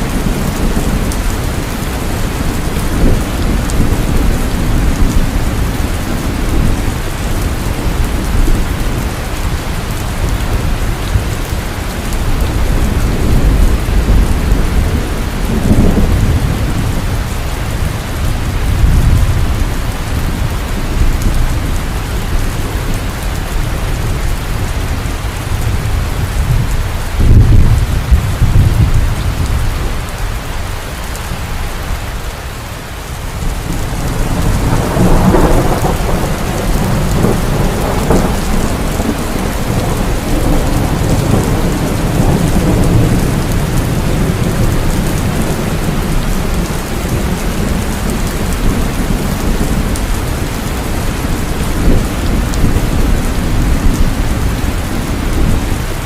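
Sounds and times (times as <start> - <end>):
heavy rain pouring: 0.0 - 56.0
thunder rumbling: 0.0 - 56.0.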